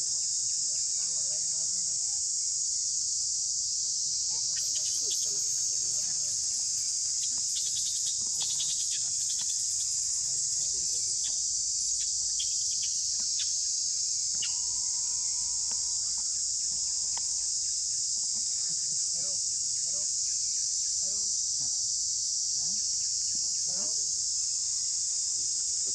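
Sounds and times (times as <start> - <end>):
insects chorus: 0.0 - 25.9.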